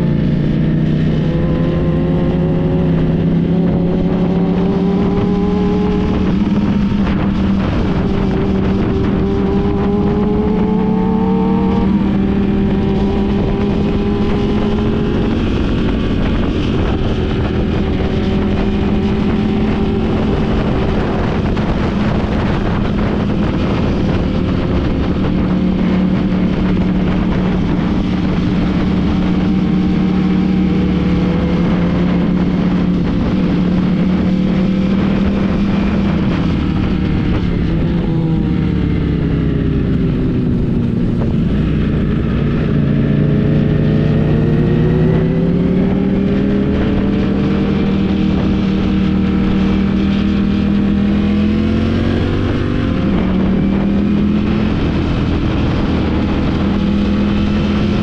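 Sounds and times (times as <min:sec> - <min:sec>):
motorcycle engine running: 0:00.0 - 0:58.0
riding wind noise: 0:00.0 - 0:58.0.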